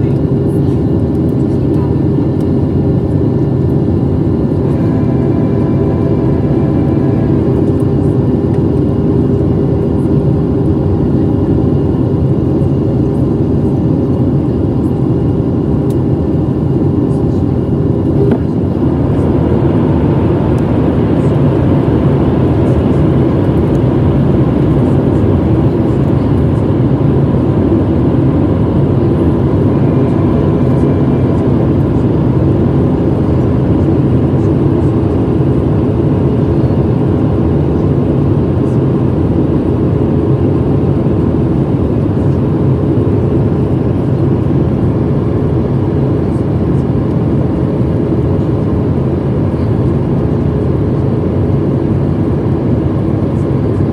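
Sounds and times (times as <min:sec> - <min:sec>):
jet engine roar: 0:00.0 - 0:53.9.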